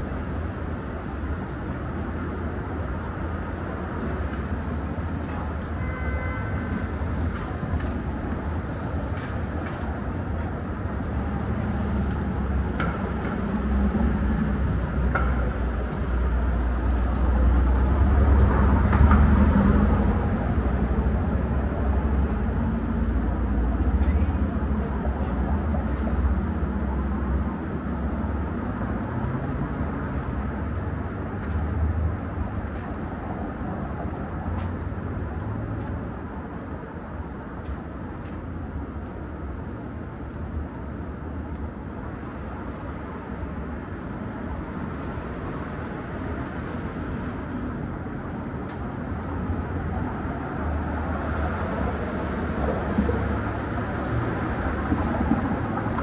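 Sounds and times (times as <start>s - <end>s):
passing vehicles rumbling: 0.0s - 56.0s.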